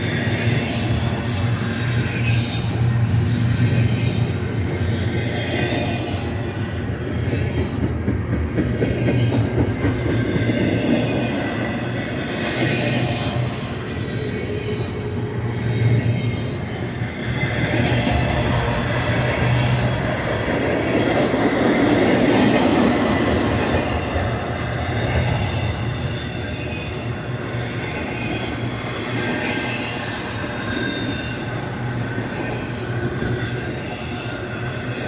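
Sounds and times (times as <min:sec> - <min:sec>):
steel wheels rumbling on rail: 0:00.0 - 0:35.0.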